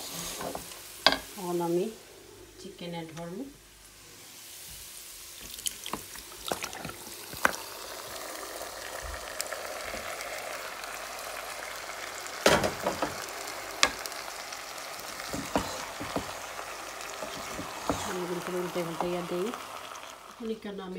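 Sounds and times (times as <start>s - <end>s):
curry sizzling in a pot: 0.0s - 2.6s, 3.3s - 20.9s.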